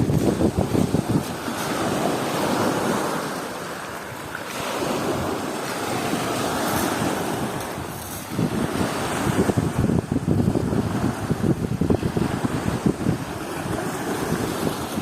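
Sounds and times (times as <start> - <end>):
ocean waves washing on beach: 0.0 - 15.0
wind buffeting microphone: 0.0 - 15.0.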